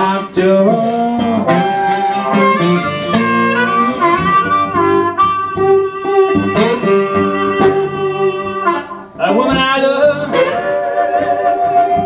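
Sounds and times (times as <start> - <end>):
blues harmonica: 0.0 - 9.3, 10.0 - 12.0
resonator guitar plucking: 0.0 - 12.0.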